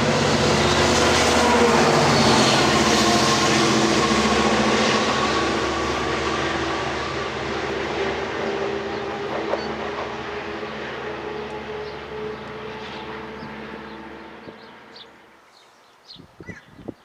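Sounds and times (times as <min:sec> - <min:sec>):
diesel train passing: 0:00.0 - 0:15.5.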